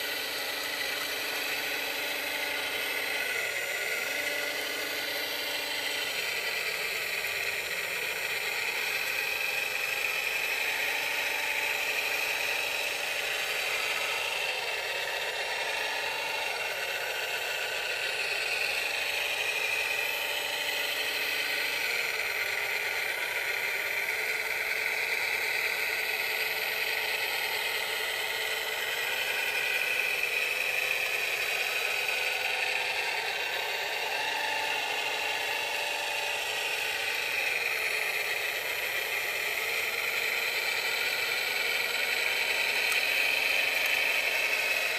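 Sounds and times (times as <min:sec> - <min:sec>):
toy motors and gears whirring: 0:00.0 - 0:44.9.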